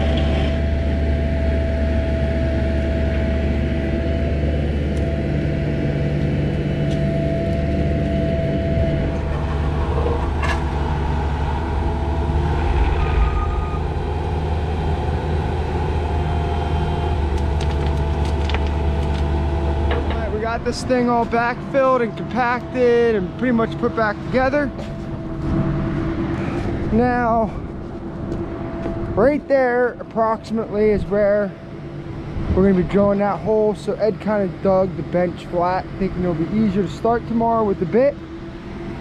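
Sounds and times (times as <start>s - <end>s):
construction machine engine running: 0.0s - 39.0s.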